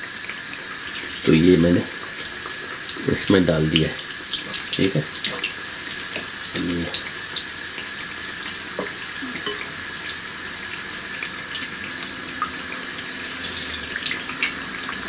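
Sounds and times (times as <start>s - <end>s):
potato slices deep-frying in oil: 0.0s - 15.0s.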